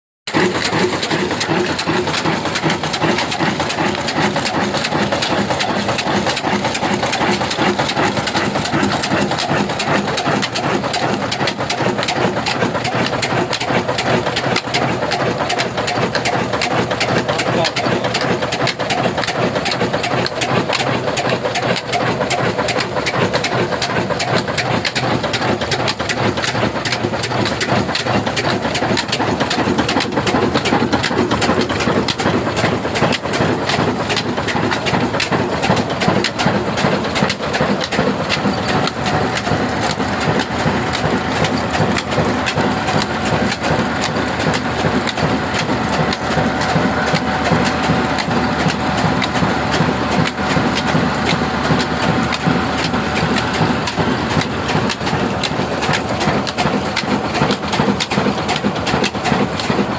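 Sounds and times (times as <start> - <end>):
diesel engine knocking: 0.3 - 59.9.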